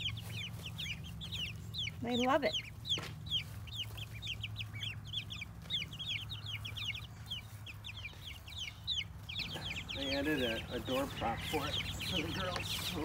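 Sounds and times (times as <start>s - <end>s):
chicks and ducklings peeping: 0.0s - 13.0s.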